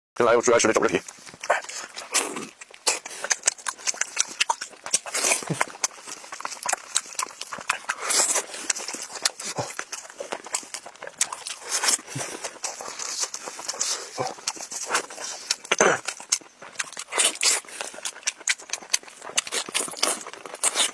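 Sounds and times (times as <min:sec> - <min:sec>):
chewing and mouth smacking: 0:00.7 - 0:20.9.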